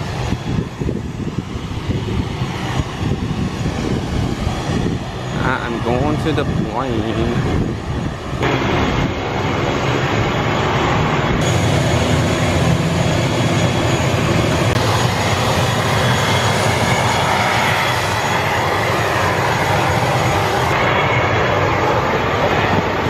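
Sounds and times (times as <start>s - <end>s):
turboprop engine rushing: 0.0s - 23.0s.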